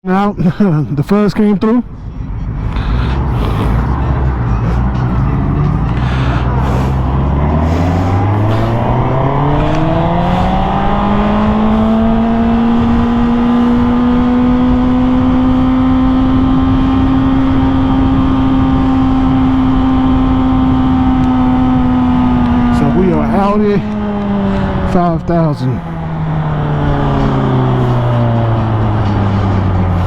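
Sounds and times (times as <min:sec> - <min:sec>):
wind and road noise: 0:00.0 - 0:30.0
motorcycle engine revving: 0:02.5 - 0:30.0.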